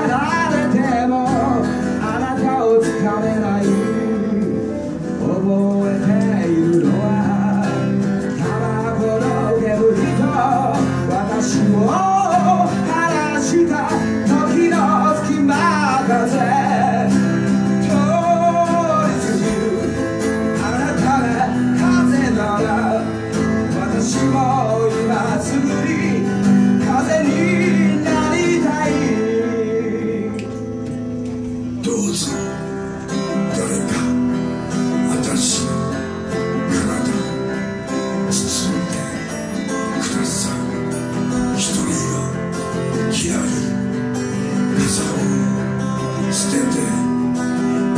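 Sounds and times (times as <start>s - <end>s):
man singing: 0.0s - 30.9s, 31.7s - 47.9s
acoustic guitars strumming: 0.0s - 47.9s.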